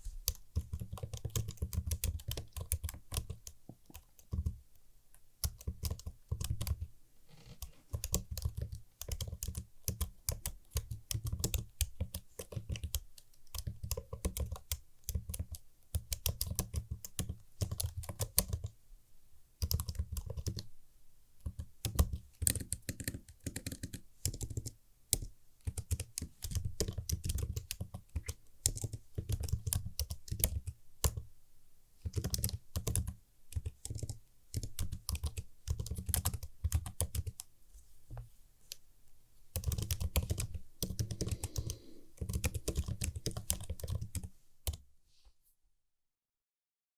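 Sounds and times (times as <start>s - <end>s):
typing on computer keyboard: 0.1s - 4.6s, 5.4s - 6.9s, 7.6s - 18.8s, 19.6s - 20.7s, 21.4s - 31.3s, 32.0s - 37.5s, 39.5s - 44.8s.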